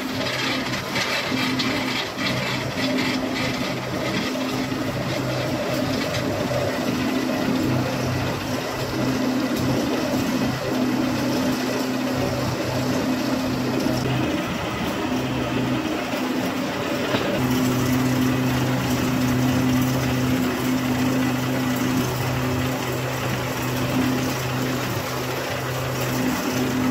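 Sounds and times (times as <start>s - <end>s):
machine humming: 0.0s - 26.9s.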